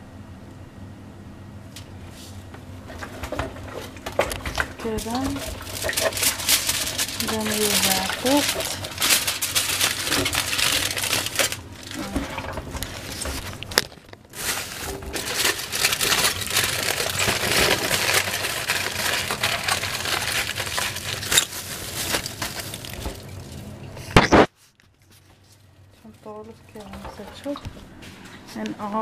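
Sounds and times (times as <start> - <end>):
aluminium foil crinkling: 2.8 - 27.6.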